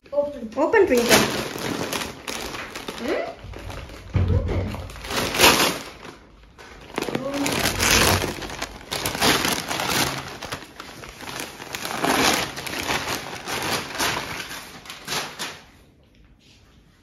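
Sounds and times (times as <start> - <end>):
wrapping paper ripping and crinkling: 0.7 - 15.8.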